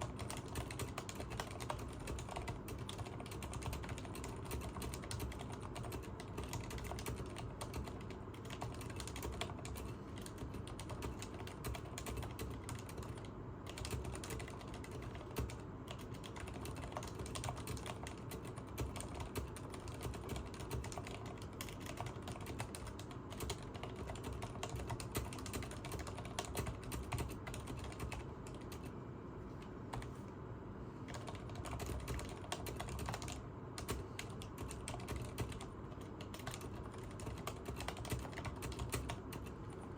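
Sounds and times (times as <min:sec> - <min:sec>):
fast typing on mechanical keyboard: 0:00.0 - 0:28.9, 0:29.9 - 0:30.1, 0:31.1 - 0:39.9.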